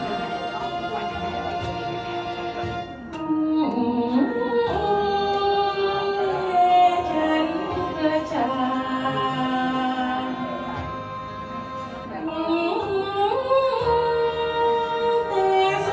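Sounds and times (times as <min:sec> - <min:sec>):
recorded backing track: 0:00.0 - 0:15.9
woman singing into microphone: 0:03.1 - 0:15.9.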